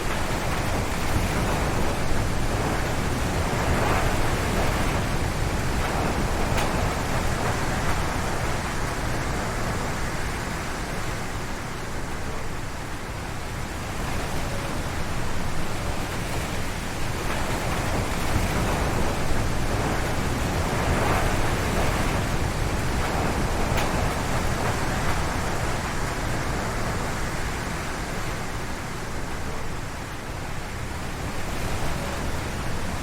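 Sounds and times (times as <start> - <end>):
strong wind roaring in trees: 0.0 - 33.0.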